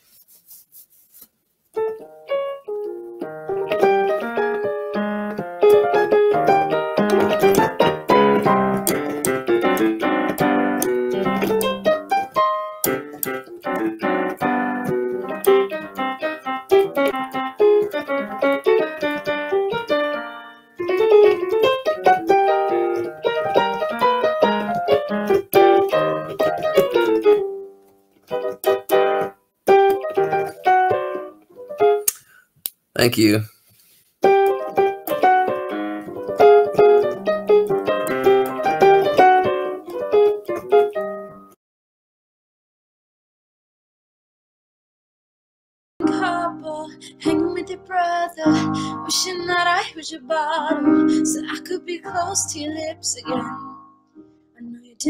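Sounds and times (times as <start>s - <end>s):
digital keyboard piano playing: 1.8s - 32.0s, 34.2s - 41.6s, 46.0s - 54.5s.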